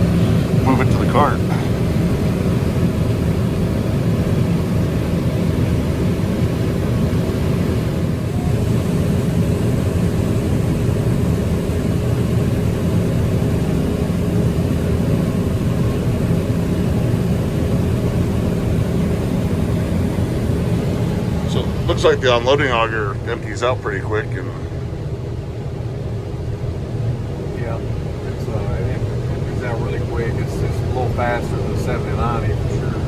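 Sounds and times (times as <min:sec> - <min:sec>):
combine engine and machinery drone: 0:00.0 - 0:33.0.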